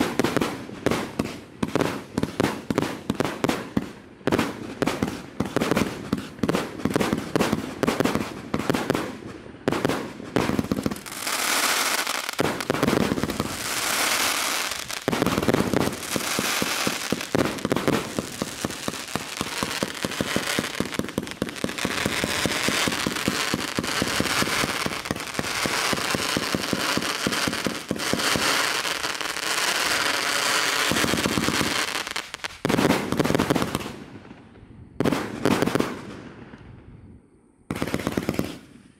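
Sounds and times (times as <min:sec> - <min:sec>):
fireworks launching and bursting: 0:00.0 - 0:36.7, 0:37.7 - 0:38.9.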